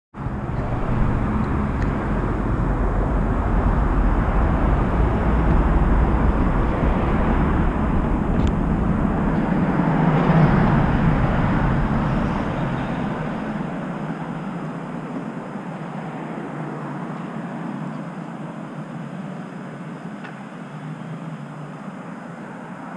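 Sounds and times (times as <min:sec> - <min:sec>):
road traffic rushing: 0:00.2 - 0:22.9.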